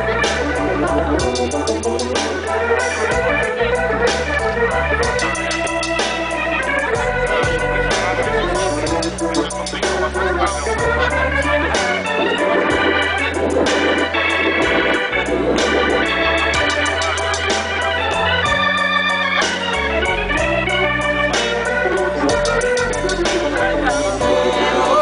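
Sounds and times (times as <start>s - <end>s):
live band playing: 0.0s - 25.0s
sustained organ chords: 0.0s - 25.0s.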